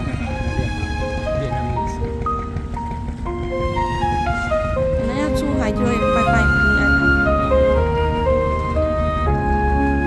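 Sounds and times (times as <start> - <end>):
slow melody of held notes: 0.0 - 10.0
steady low drone: 0.0 - 10.0.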